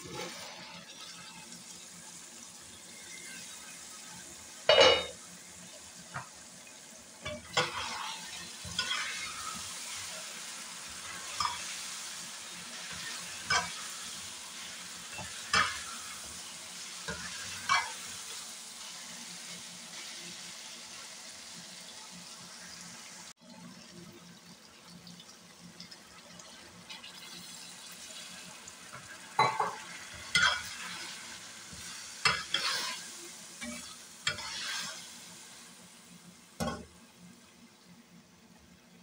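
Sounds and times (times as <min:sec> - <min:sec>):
food sizzling in a metal pot: 0:00.0 - 0:39.0.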